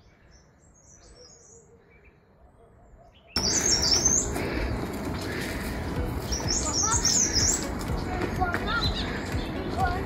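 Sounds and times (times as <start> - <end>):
small birds chirping: 0.0 - 10.0
steady outdoor rush: 1.6 - 10.0.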